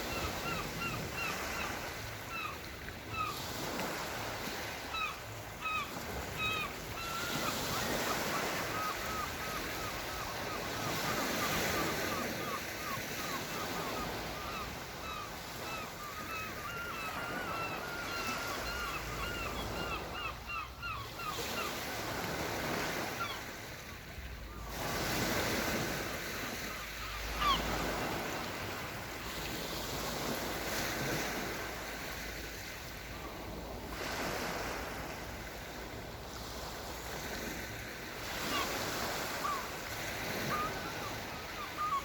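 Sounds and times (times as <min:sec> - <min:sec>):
waves washing onto shore: 0:00.0 - 0:20.2, 0:21.3 - 0:42.0.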